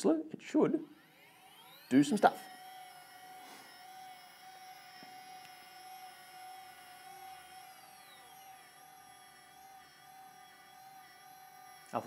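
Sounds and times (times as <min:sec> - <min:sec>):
telescope mount motors whining: 0:00.8 - 0:12.0.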